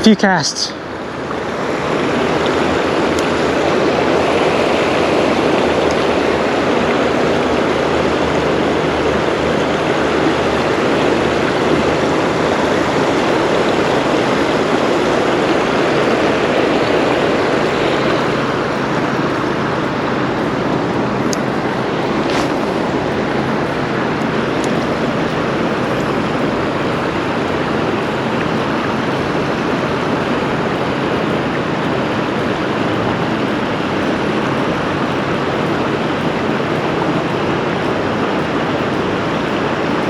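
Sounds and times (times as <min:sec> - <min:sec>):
fast-flowing creek water: 0:00.0 - 0:40.0.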